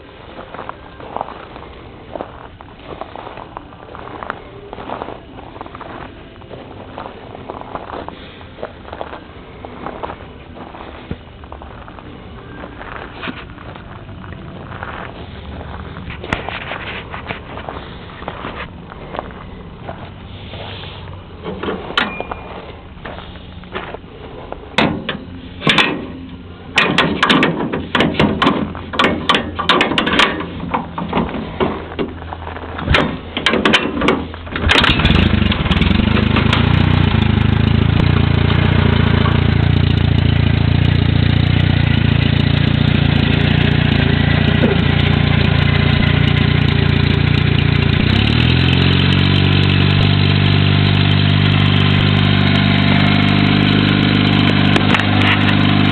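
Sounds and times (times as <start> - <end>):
tractor engine starting and running: 0.0 - 55.9.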